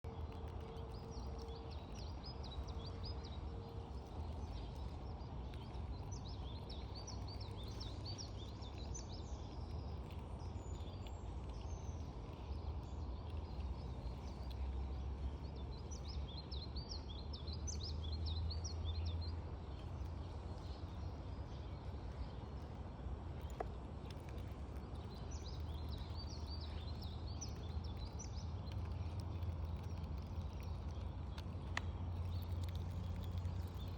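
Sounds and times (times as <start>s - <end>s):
low background rumble: 0.0s - 33.9s
small birds twittering: 0.0s - 33.9s.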